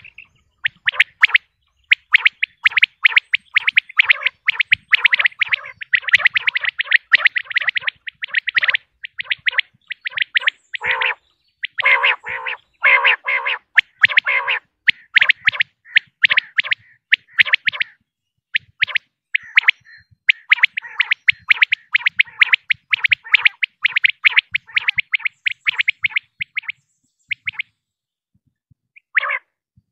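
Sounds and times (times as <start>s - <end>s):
quail calling: 0.0s - 18.0s, 18.6s - 27.7s, 29.0s - 29.5s.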